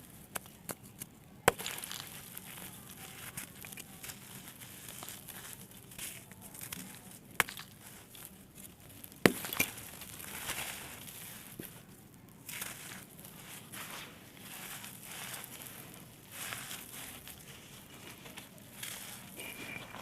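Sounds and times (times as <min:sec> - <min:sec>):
dry dirt crumbling: 0:00.0 - 0:20.0.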